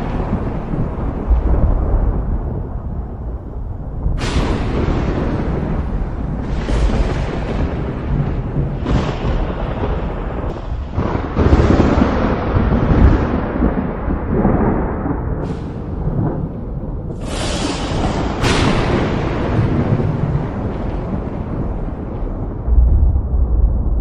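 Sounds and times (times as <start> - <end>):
sharp thunder crack: 0.0 - 24.0
thunder claps: 0.0 - 24.0
thunder rolling: 0.0 - 24.0.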